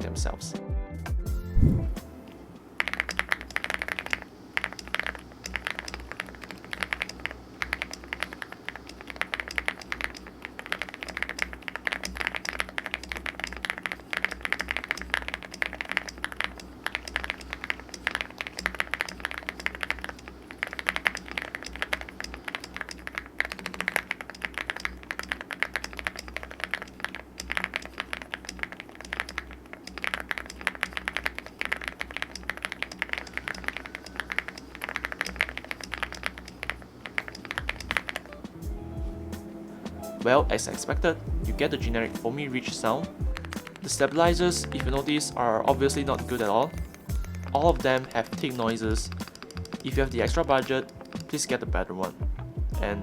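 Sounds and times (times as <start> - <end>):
keyboard stabilizers ticking: 2.7 - 53.0
typing on mechanical keyboard: 2.8 - 38.5, 40.2 - 45.2, 46.3 - 52.1.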